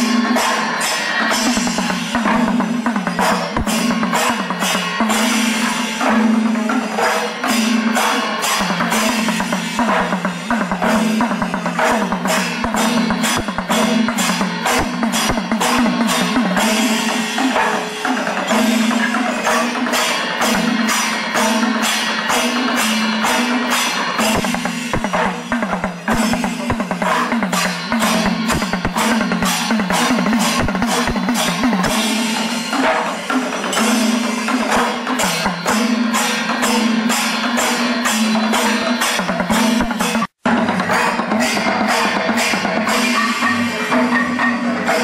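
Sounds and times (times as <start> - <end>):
rapid drum strokes: 0.0 - 45.0.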